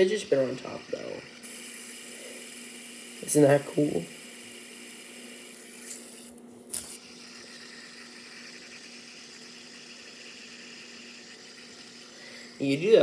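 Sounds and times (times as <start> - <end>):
fidget spinner whirring: 0.0 - 13.0.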